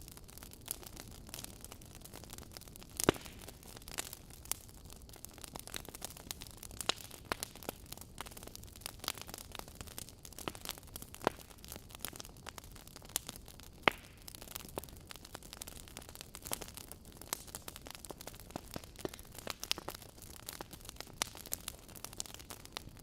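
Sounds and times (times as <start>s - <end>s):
wood fire crackling: 0.0s - 23.0s
loud fire pops: 0.4s - 23.0s.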